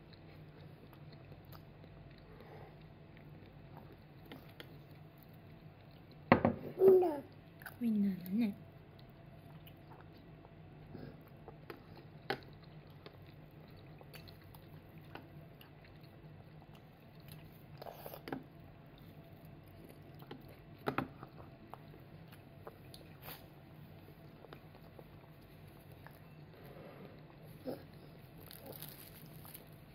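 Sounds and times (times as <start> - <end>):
faint chewing: 0.0 - 6.3, 7.1 - 29.9.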